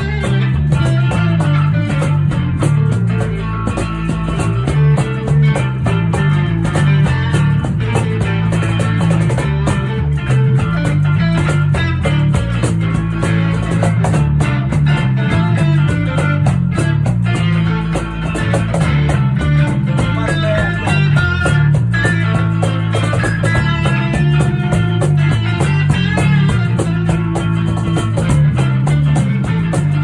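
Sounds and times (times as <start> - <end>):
bass notes: 0.0 - 30.0
guitar: 0.0 - 30.0
live band playing: 0.0 - 30.0.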